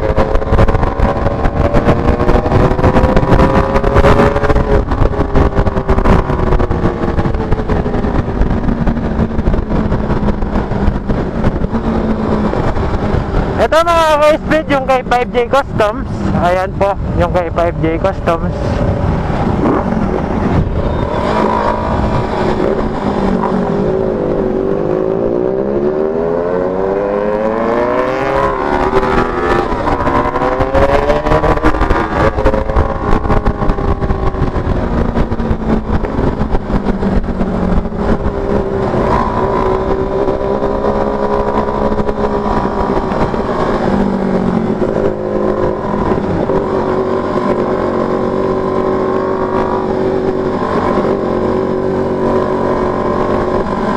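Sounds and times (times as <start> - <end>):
motorcycle engine: 0.0 - 53.9
wind buffeting on microphone: 0.0 - 53.9.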